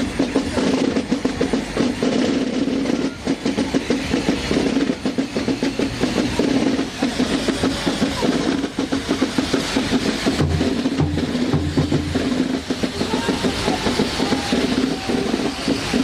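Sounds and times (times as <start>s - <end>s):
fast drum roll: 0.0s - 16.0s
heavy bass drum beats: 0.0s - 16.0s.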